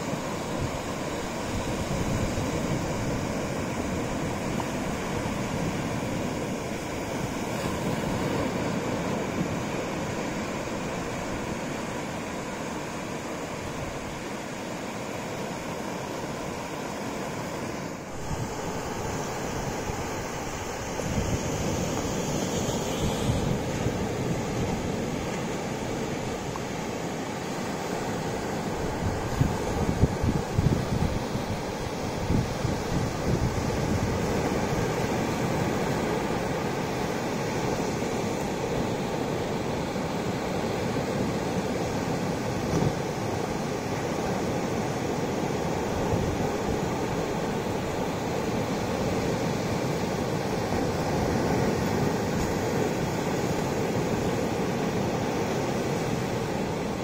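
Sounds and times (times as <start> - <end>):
ocean surf breaking: 0.0 - 57.0.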